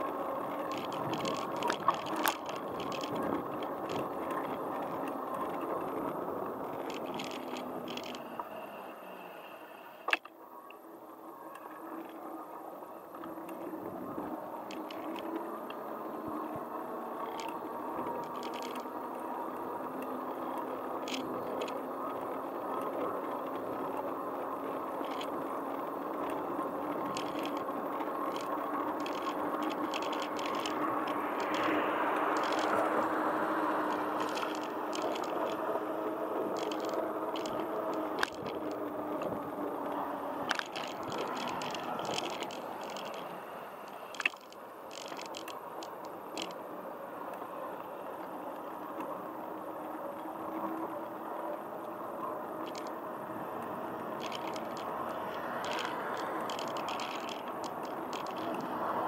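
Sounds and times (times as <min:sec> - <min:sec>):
bicycle ticking: 0:00.0 - 0:08.4, 0:13.1 - 0:59.0
wind on camera: 0:00.0 - 0:09.0, 0:10.1 - 0:59.0
tyres rushing on asphalt: 0:00.0 - 0:59.0.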